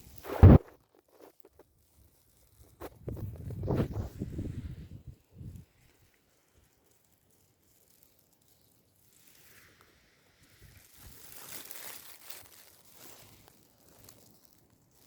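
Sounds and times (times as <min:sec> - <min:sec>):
wind rustling foliage: 0:01.7 - 0:14.3.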